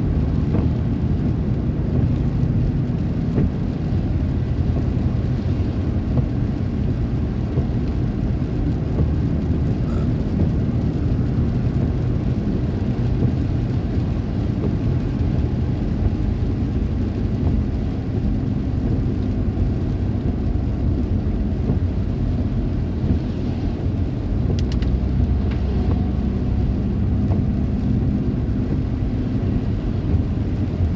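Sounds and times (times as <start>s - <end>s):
heavy rain: 0.0s - 30.9s.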